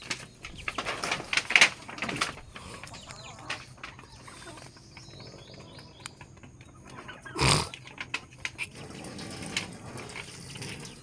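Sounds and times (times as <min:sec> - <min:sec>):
chickens chirping: 0:00.0 - 0:11.0
knocks and scraping: 0:00.0 - 0:11.0.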